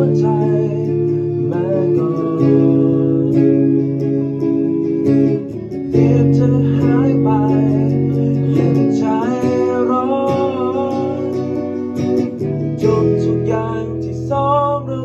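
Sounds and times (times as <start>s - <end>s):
man singing: 0.0s - 5.1s, 5.9s - 11.9s, 12.7s - 15.0s
bass guitar: 0.0s - 15.0s
electric guitars: 0.0s - 15.0s.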